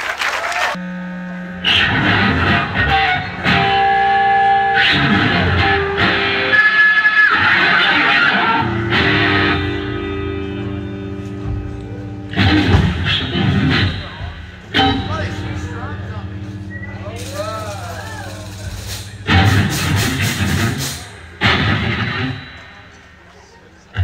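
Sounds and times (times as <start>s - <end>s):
loud electric guitar noise-rock: 0.8s - 24.0s.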